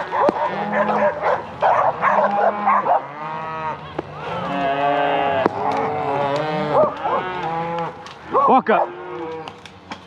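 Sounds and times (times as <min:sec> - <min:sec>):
cattle mooing: 0:00.0 - 0:09.6.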